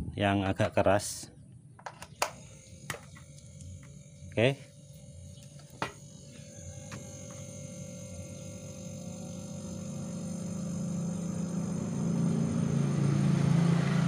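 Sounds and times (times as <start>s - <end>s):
refrigerator compressor humming: 1.8s - 14.0s.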